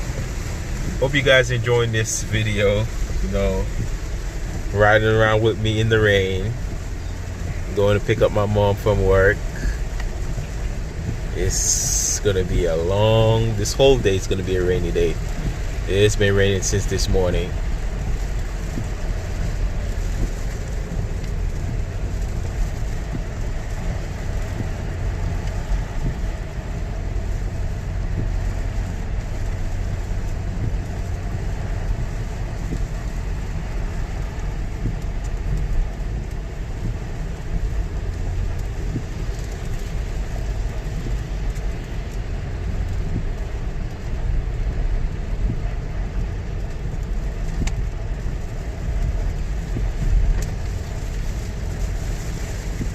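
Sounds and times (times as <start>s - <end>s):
car road and engine rumble: 0.0s - 52.9s
faint hiss: 0.1s - 52.9s.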